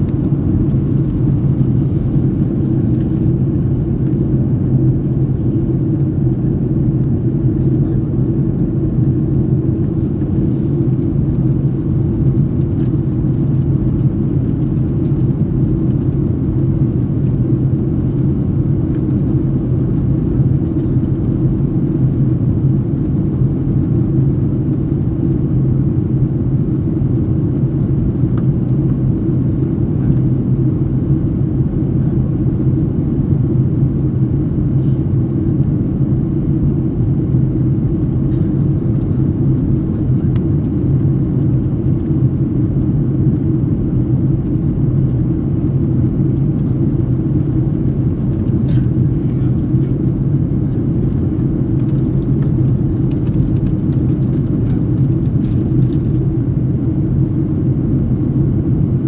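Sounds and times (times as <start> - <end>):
aircraft low rumble: 0.0 - 59.0.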